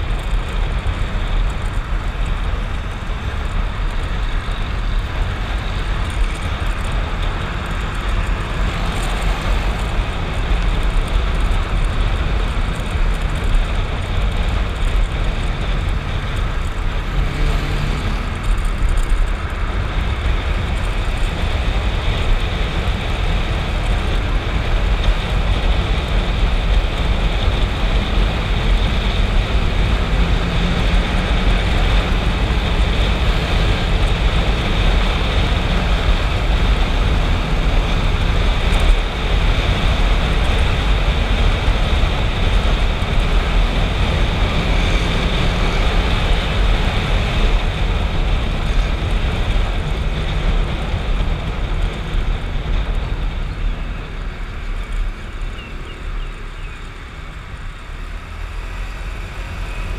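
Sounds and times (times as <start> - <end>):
motorcycle engine drone: 0.0 - 59.9
wind and road noise: 0.0 - 59.9.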